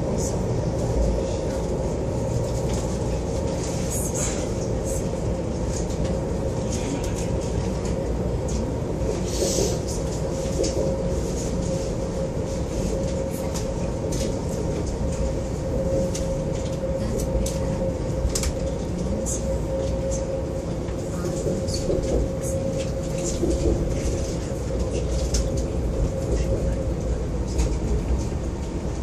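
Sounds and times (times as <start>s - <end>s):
train rumble inside carriage: 0.0s - 29.0s.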